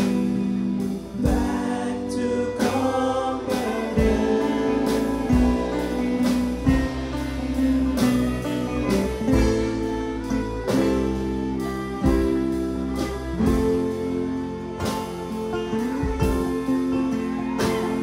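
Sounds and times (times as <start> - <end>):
acoustic bluegrass band: 0.0 - 18.0.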